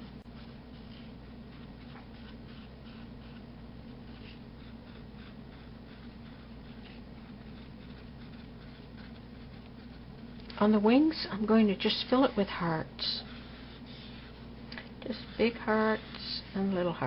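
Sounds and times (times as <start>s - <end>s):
steady low hum: 0.0s - 17.0s
pen scratching on paper: 0.2s - 17.0s.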